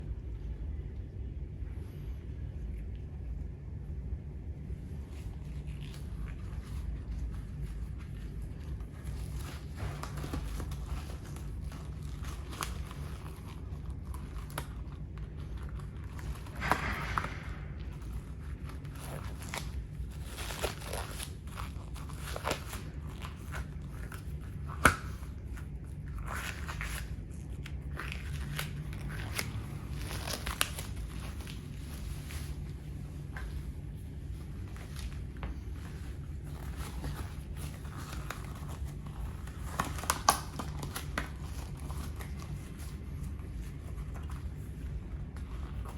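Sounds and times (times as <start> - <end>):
low hum: 0.0 - 45.9.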